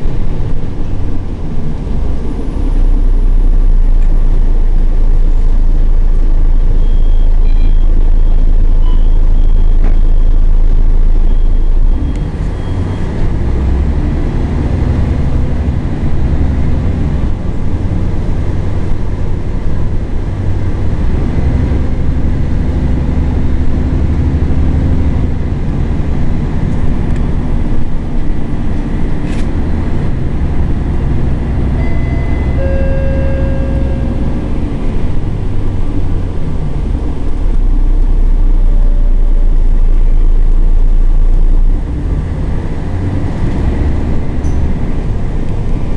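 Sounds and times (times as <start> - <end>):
bus diesel engine running: 0.0 - 45.9.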